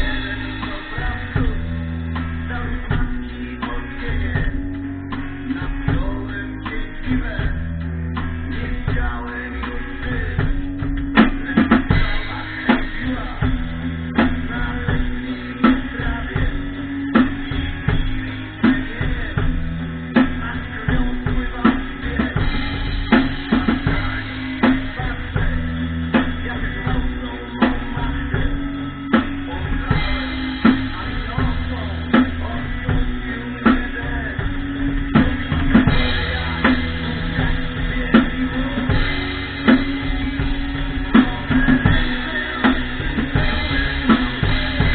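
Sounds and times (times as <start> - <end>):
bass guitar: 0.0 - 44.9
drum kit beat: 0.0 - 44.9
guitar: 0.0 - 44.9.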